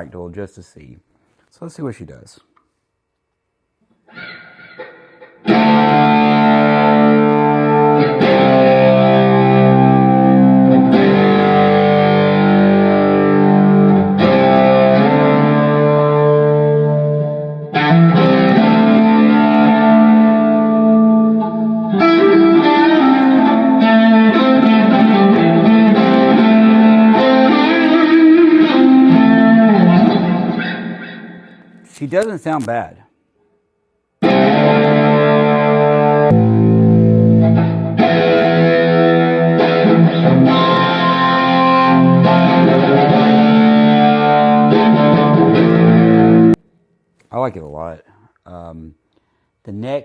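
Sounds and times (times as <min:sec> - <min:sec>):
distorted electric guitar: 0:04.0 - 0:32.0, 0:34.2 - 0:46.6.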